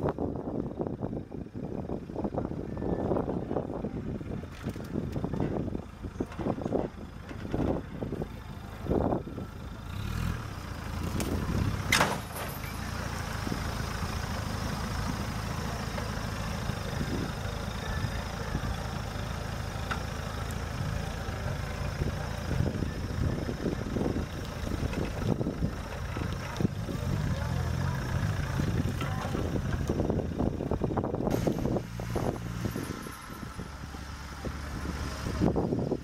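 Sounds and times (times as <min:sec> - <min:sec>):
engine running at low revs: 0:00.0 - 0:36.0.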